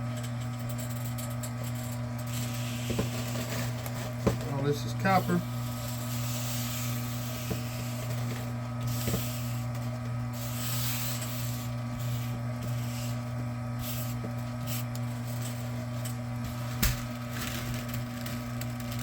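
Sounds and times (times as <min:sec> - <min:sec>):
machine motor humming: 0:00.1 - 0:19.0.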